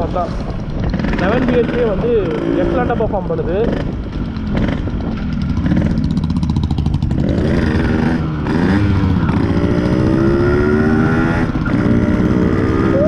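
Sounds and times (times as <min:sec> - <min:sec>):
two-stroke motorcycle engine accelerating: 0:00.0 - 0:13.0.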